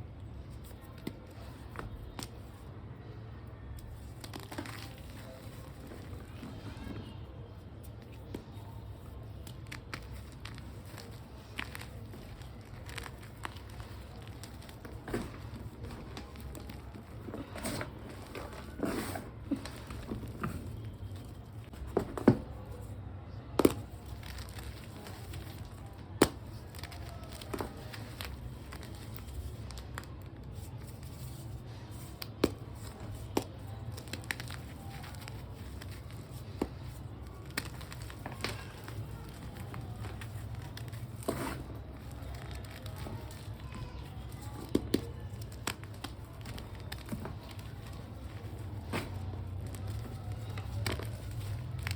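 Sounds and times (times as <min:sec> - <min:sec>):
chalk blocks crunching and snapping: 0:03.8 - 0:06.7, 0:09.2 - 0:22.4, 0:23.6 - 0:51.9.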